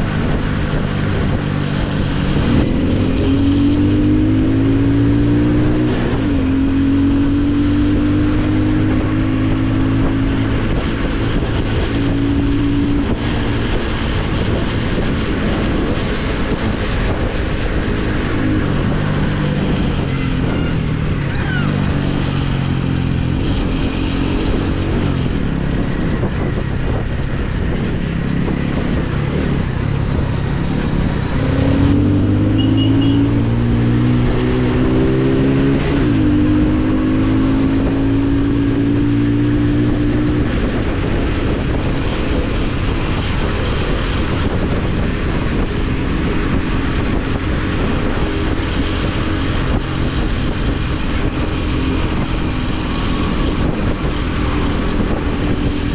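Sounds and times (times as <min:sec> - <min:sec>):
motorcycle engine: 0:00.0 - 0:55.9
wind rush on microphone: 0:00.0 - 0:55.9.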